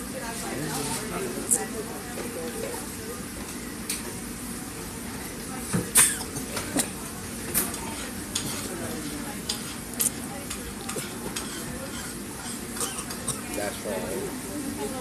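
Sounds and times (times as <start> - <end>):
restaurant room hiss: 0.0 - 15.0.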